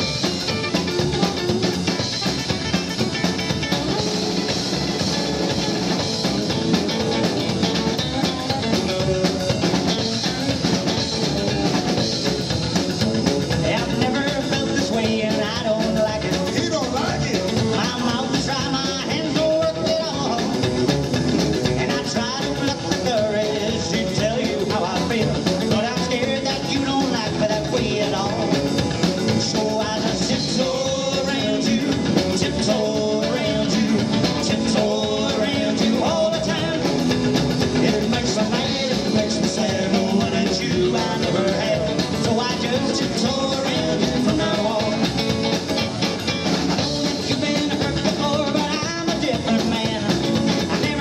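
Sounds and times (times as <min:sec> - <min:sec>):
drum kit: 0:00.0 - 0:51.0
electric guitar: 0:00.0 - 0:51.0
man singing: 0:00.0 - 0:51.0
upright double bass: 0:00.0 - 0:51.0.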